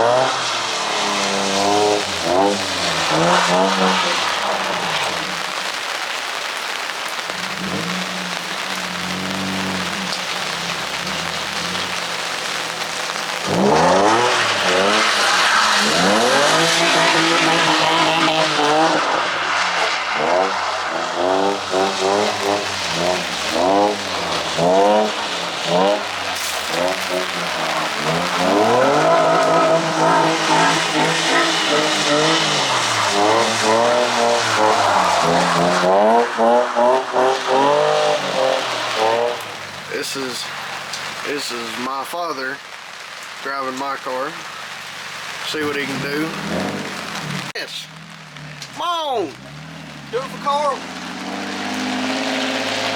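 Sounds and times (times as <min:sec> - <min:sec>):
car engine revving: 0:00.0 - 0:52.9
tyres skidding: 0:00.0 - 0:52.9.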